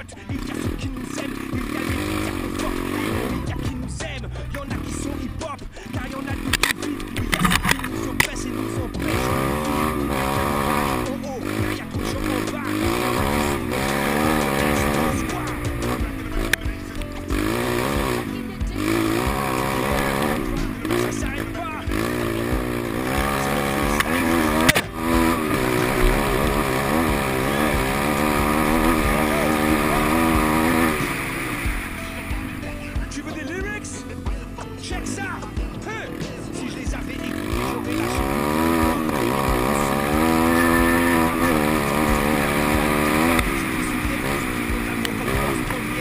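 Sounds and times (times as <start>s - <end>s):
motorbike engine revving: 0.0s - 46.0s.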